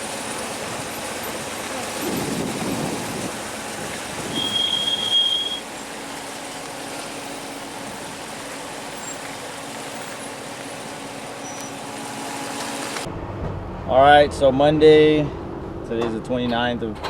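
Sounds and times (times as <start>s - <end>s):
vehicle road noise: 0.0s - 17.0s.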